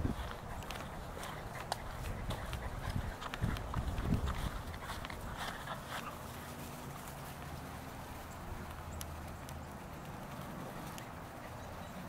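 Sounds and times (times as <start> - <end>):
footsteps through grass and brush: 0.0 - 11.4.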